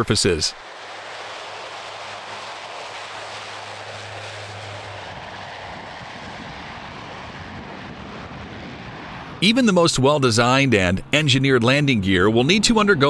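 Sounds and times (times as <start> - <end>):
turboprop aircraft rushing noise: 0.0 - 13.0.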